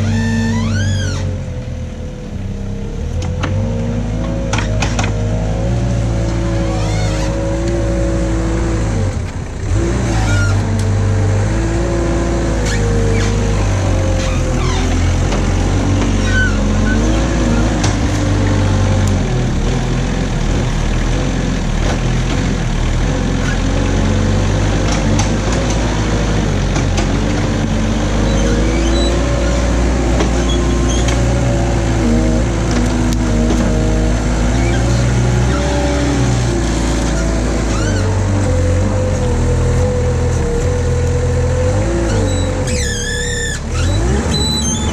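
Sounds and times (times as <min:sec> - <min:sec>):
mini loader engine running: 0:00.0 - 0:44.9.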